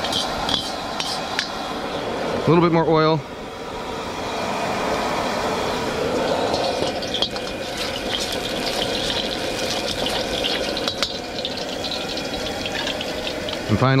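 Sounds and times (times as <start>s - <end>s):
oil crackling and sizzling: 0.0s - 2.5s, 3.7s - 14.0s
gas burner roaring: 0.0s - 14.0s.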